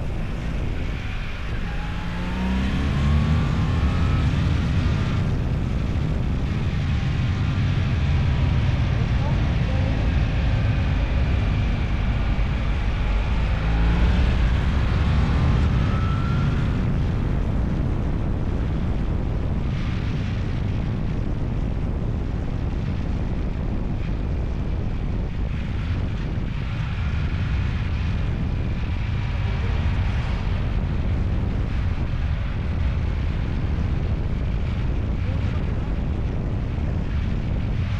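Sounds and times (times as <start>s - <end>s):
road noise: 0.0s - 37.9s
vehicle engine rumble: 0.0s - 37.9s
wind on microphone: 0.0s - 37.9s.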